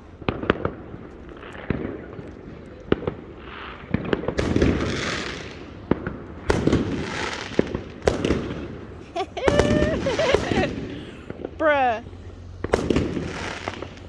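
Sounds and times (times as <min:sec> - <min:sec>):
distant fireworks bangs: 0:00.0 - 0:14.0.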